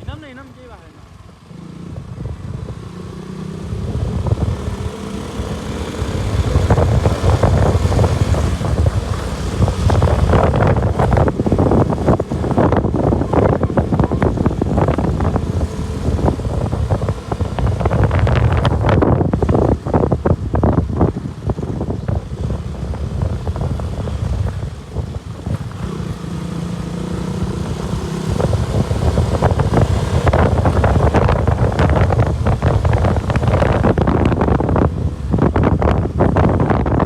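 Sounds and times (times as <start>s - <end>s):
motorcycle engine running: 0.0s - 37.0s
wind buffeting on microphone: 1.5s - 37.0s.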